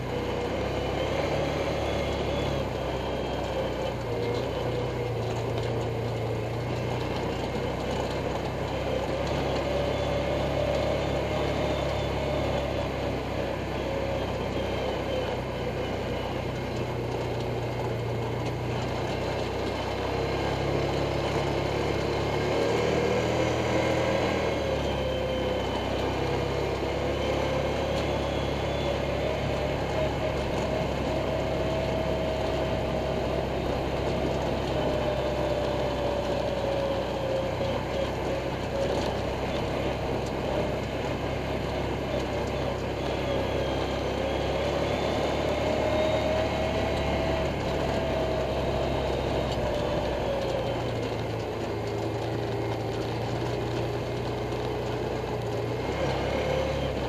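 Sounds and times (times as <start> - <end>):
off-road vehicle engine: 0.0 - 57.0.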